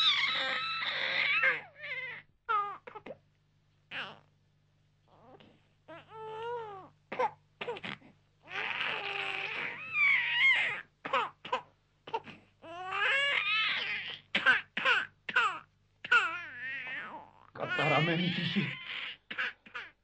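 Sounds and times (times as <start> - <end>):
newborn babies crying: 0.0 - 3.1, 3.9 - 4.3, 5.1 - 20.0.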